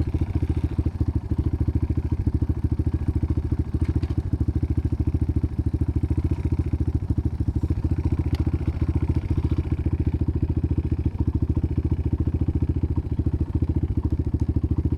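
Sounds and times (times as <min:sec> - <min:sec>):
dirt bike engine idling: 0:00.0 - 0:14.9.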